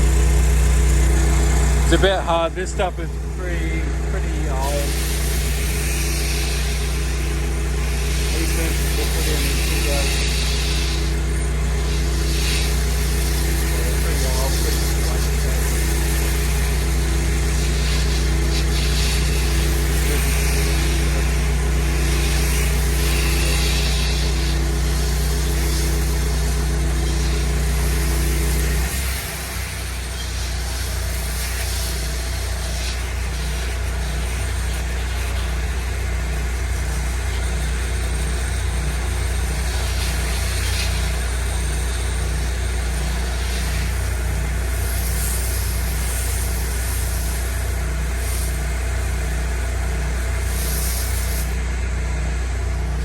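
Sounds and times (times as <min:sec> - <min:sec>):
pressure washer engine running: 0:00.0 - 0:53.0.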